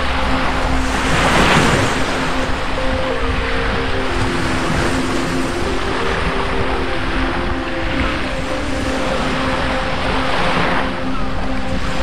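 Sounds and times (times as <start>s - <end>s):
sea surf washing onto beach: 0.0s - 12.0s
soft background music: 0.0s - 12.0s.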